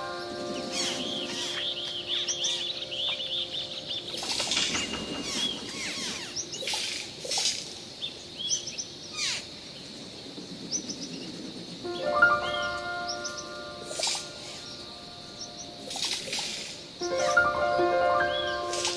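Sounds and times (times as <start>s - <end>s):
many birds chirping: 0.0s - 18.9s.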